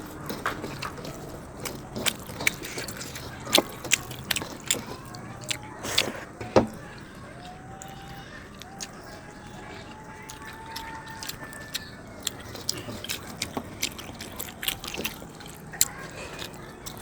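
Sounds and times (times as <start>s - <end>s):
crunchy clicks: 0.0s - 17.0s
person chewing food: 0.0s - 17.0s.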